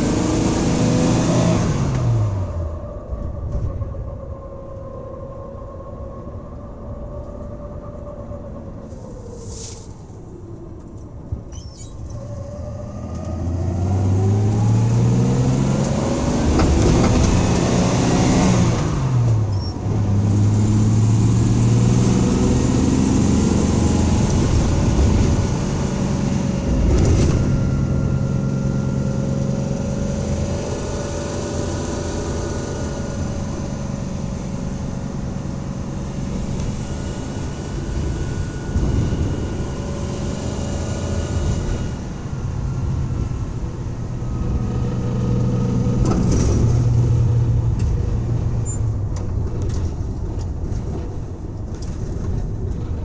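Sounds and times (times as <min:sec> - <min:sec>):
van engine accelerating: 0:00.0 - 0:03.8, 0:10.8 - 0:53.0.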